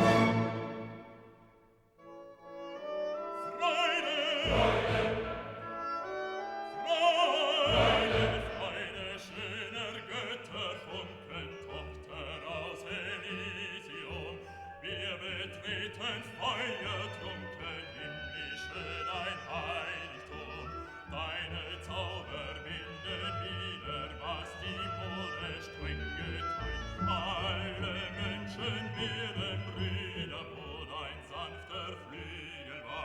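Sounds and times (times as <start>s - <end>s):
classical piece with operatic singing: 0.0s - 33.0s.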